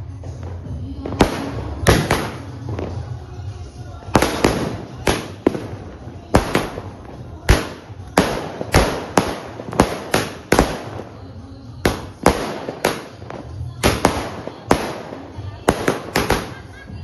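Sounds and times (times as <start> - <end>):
firework cake bangs with crackle: 0.5 - 3.2, 4.1 - 17.0.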